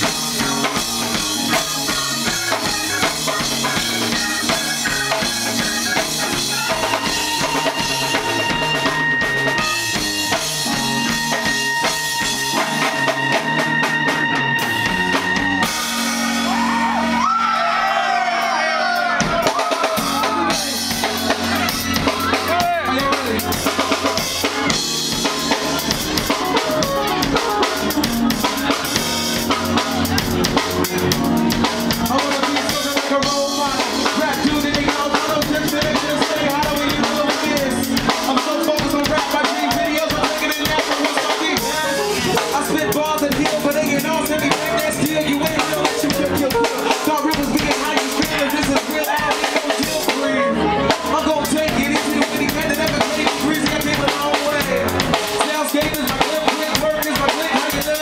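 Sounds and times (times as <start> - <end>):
drum kit beat: 0.0 - 58.0
live hip hop band: 0.0 - 58.0.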